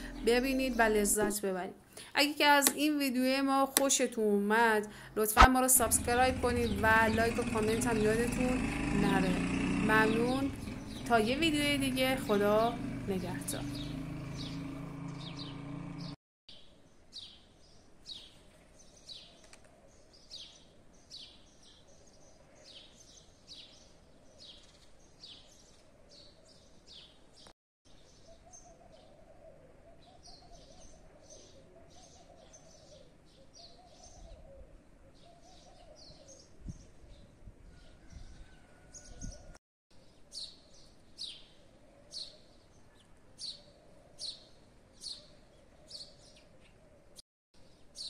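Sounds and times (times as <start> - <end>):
faint outdoor background noise: 0.0 - 48.0
small birds chirping: 4.9 - 48.0.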